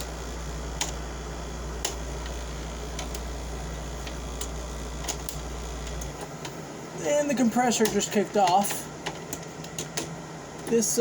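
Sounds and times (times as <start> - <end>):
air conditioner humming: 0.0 - 11.0
fan airflow: 0.0 - 11.0.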